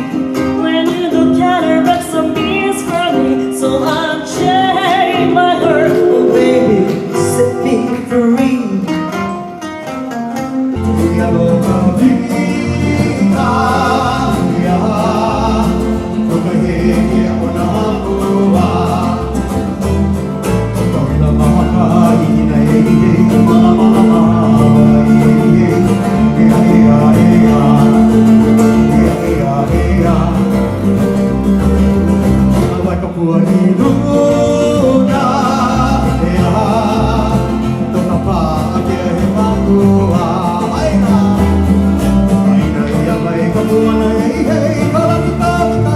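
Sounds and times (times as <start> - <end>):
song with plucked strings: 0.0 - 45.9.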